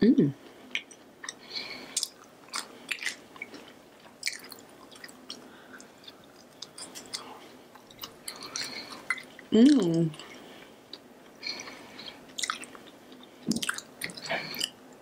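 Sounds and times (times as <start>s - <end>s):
person chewing food: 0.4s - 14.9s.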